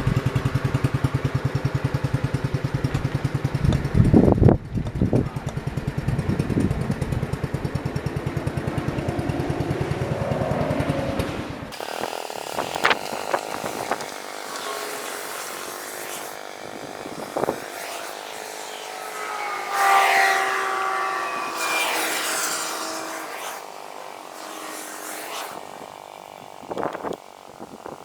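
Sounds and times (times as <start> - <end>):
garden tractor engine running: 0.0 - 10.9, 11.7 - 28.0.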